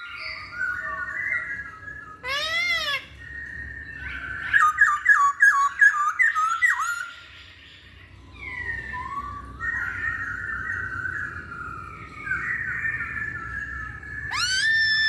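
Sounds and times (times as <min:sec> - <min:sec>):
bird singing: 0:00.0 - 0:15.0.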